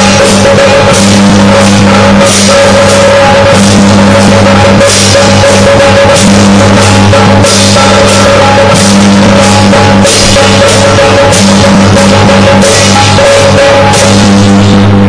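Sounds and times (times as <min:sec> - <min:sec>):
cymbal crash: 0:00.0 - 0:15.0
drum and cymbal music: 0:00.0 - 0:15.0
steady low drone: 0:00.0 - 0:15.0.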